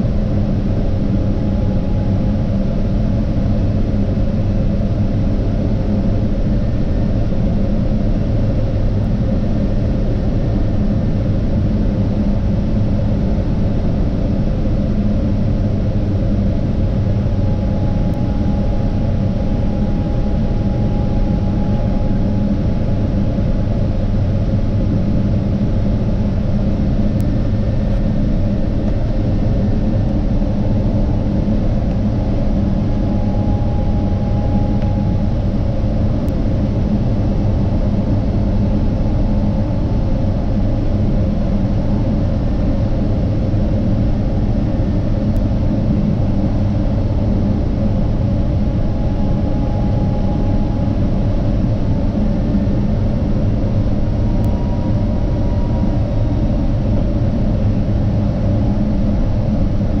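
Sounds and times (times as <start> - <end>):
faint hum: 0.0 - 60.0
jet engine low rumble: 0.0 - 60.0.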